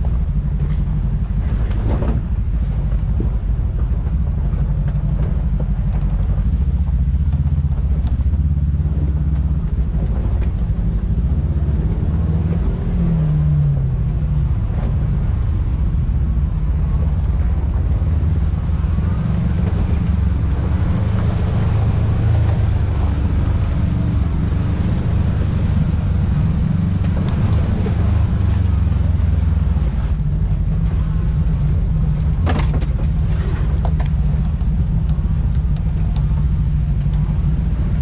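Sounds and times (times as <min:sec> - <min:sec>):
engine low drone: 0:00.0 - 0:38.0.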